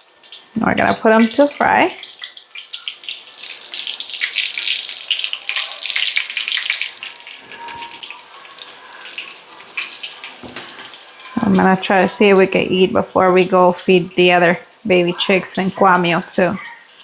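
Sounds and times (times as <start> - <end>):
chicken frying in lard: 0.0 - 17.0.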